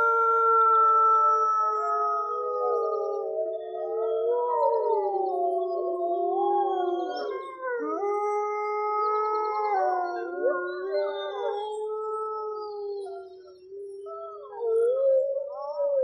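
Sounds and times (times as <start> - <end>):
wolves howling in chorus: 0.0 - 16.0.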